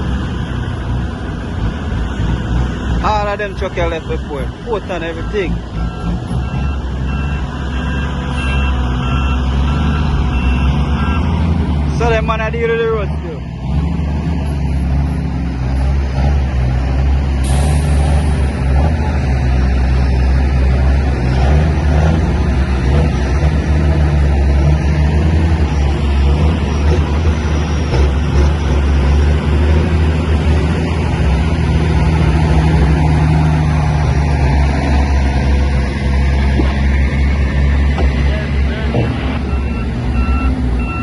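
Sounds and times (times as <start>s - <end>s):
heavy truck engines rumbling: 0.0s - 41.0s.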